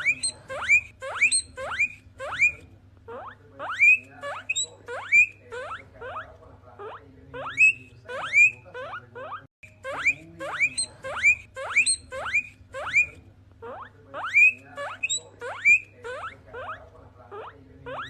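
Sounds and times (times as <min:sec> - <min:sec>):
guinea pigs wheeking: 0:00.0 - 0:18.0.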